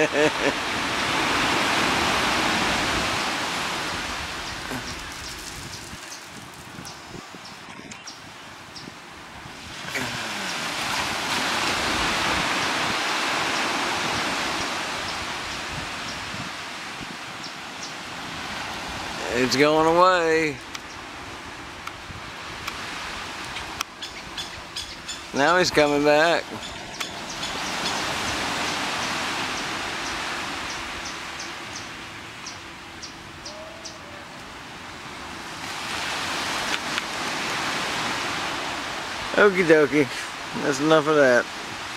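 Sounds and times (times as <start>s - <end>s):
ocean wave breaking: 0.0s - 7.4s, 9.4s - 23.8s, 24.6s - 32.4s, 33.6s - 41.9s
rushing wash of surf: 0.0s - 41.9s.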